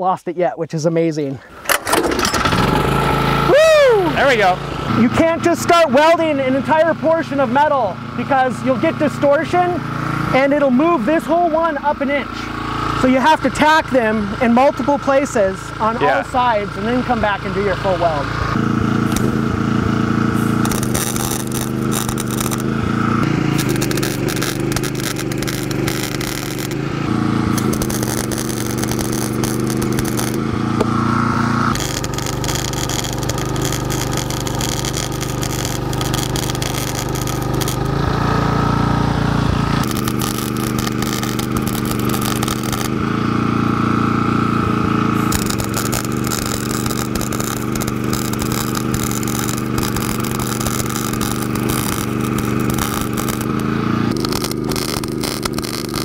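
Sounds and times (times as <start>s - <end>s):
steady low hum: 1.4s - 56.0s
welder arc crackling and buzzing: 1.6s - 56.0s.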